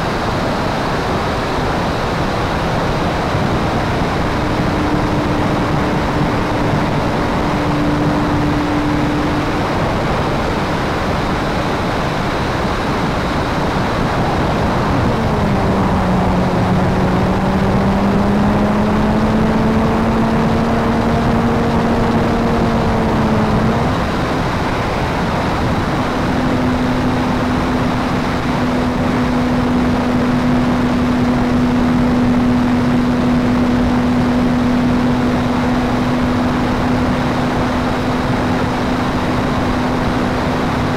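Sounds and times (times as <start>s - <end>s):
propeller plane engine droning: 0.0s - 40.9s
wind rush on microphone: 0.0s - 40.9s.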